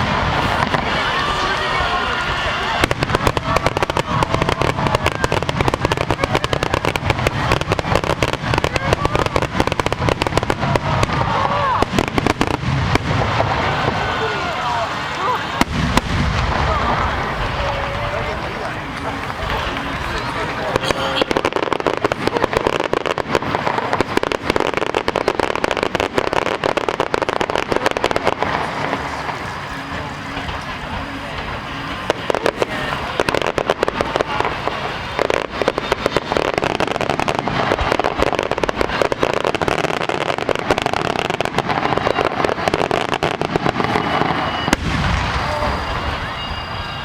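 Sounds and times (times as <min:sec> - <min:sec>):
fireworks crackling: 0:00.0 - 0:47.0.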